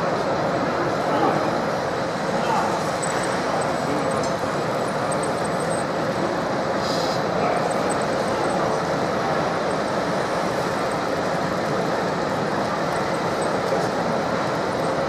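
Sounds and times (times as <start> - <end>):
busy hall crowd din: 0.0 - 15.0.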